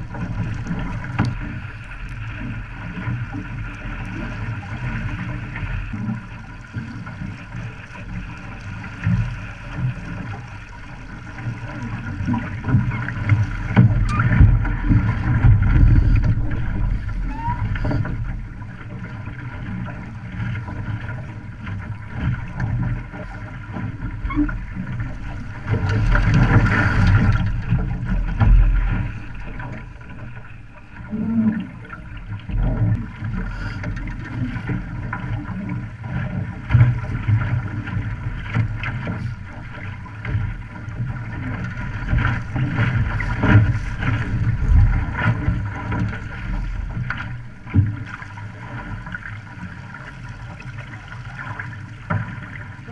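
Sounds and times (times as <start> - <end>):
water splashing along hull: 0.0 - 52.9.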